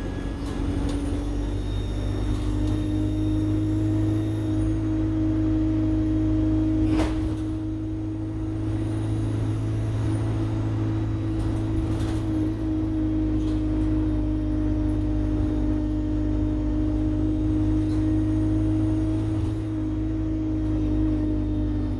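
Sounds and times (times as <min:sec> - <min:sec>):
bus diesel engine droning: 0:00.0 - 0:21.9
high turbocharger whine: 0:00.0 - 0:21.9.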